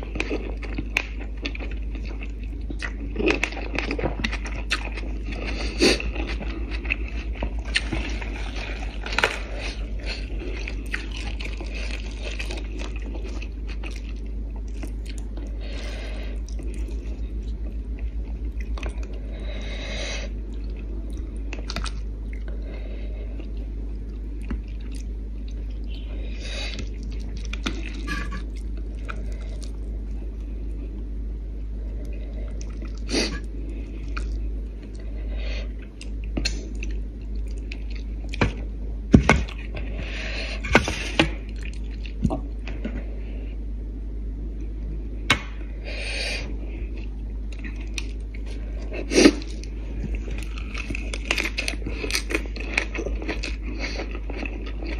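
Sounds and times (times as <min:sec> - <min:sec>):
chewing: 0:00.0 - 0:19.3, 0:23.3 - 0:30.5, 0:32.0 - 0:38.6, 0:39.4 - 0:43.0, 0:46.8 - 0:54.9
steady low hum: 0:00.0 - 0:54.9.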